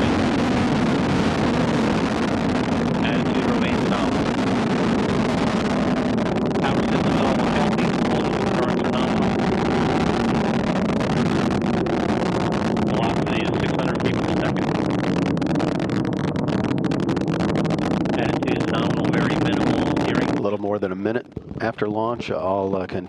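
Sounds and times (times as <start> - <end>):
rocket engine rumble with crackling: 0.0 - 23.0.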